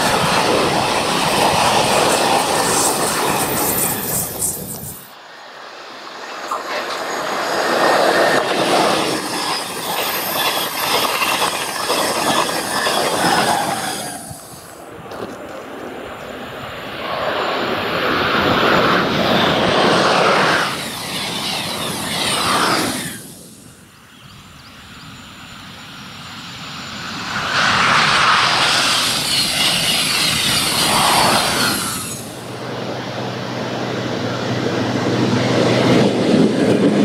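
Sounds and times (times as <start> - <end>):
high-speed train rushing past: 0.0 - 37.0.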